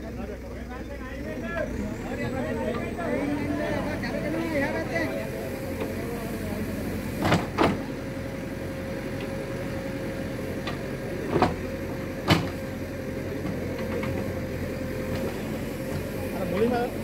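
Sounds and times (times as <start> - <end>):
diesel engine running with whine: 0.0 - 17.0.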